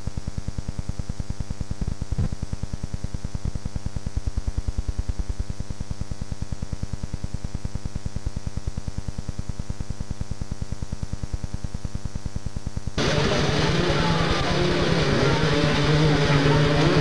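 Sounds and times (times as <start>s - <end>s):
electrical hum and buzz: 0.0s - 17.0s.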